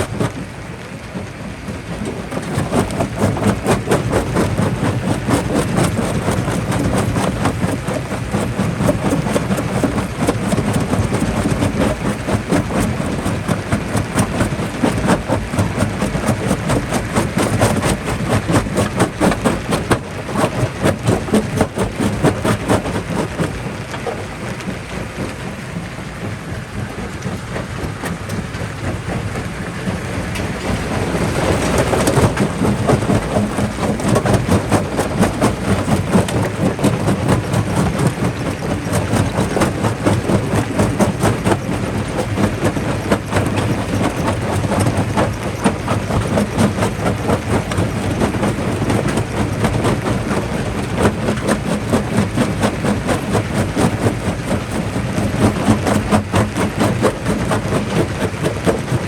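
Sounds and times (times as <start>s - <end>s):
rock crusher machine drone: 0.0s - 59.0s.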